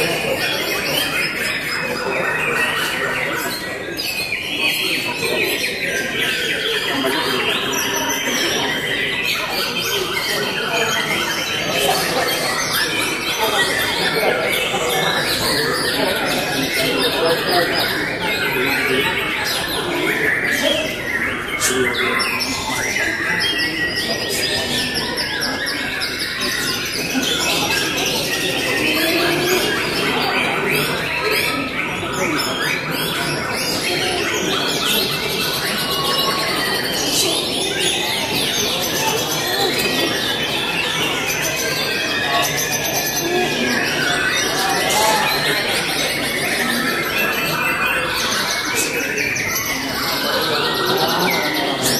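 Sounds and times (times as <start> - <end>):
songbirds singing together: 0.0 - 51.9.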